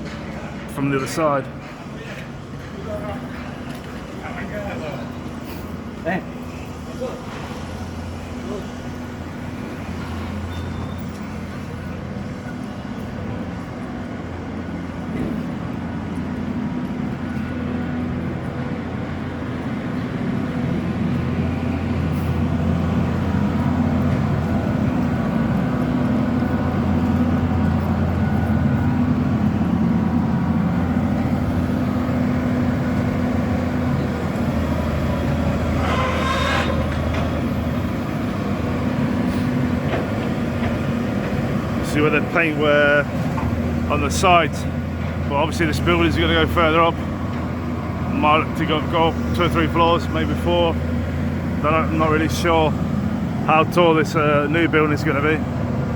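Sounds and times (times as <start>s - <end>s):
heavy engine humming: 0.0s - 55.9s.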